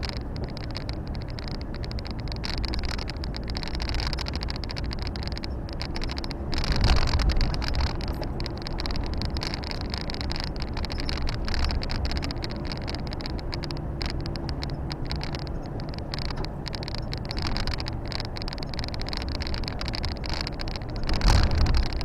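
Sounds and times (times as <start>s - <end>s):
road and tyre noise hiss: 0.0s - 22.0s
truck diesel engine running: 0.0s - 22.0s.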